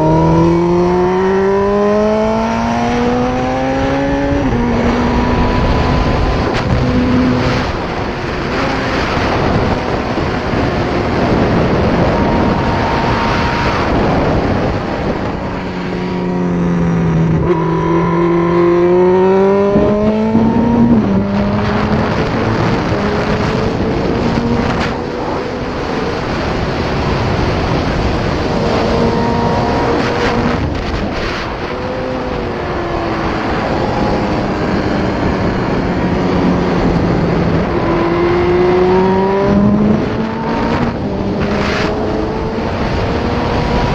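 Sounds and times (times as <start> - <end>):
motorcycle engine accelerating: 0.0 - 43.9
wind rush: 0.0 - 43.9.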